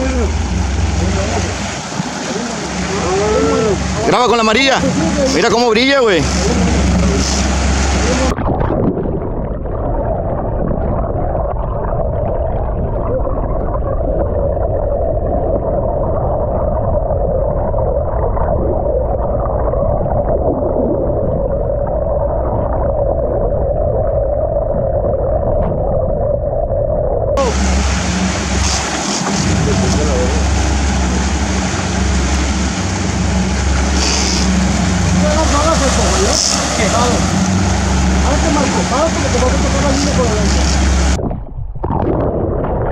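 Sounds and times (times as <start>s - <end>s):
steady droning hum: 0.0s - 8.5s, 9.4s - 41.2s
muffled underwater rushing water: 0.0s - 42.9s.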